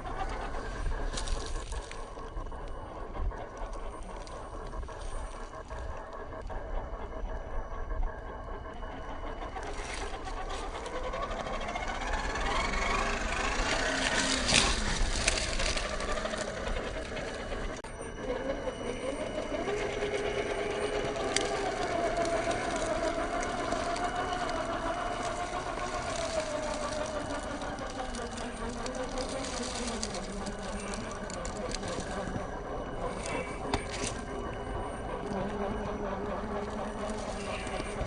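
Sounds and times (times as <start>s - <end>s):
electric motor and gearbox whining: 0.0s - 38.0s.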